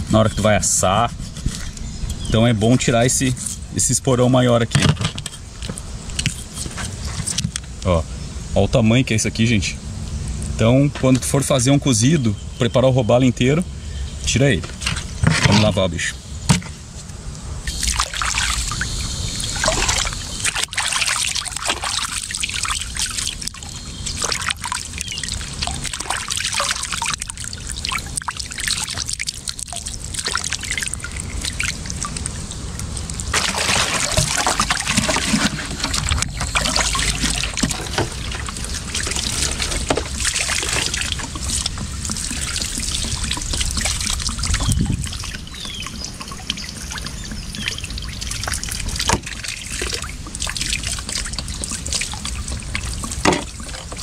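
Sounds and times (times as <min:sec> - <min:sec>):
water trickling and splashing: 0:00.0 - 0:08.0, 0:08.6 - 0:54.0.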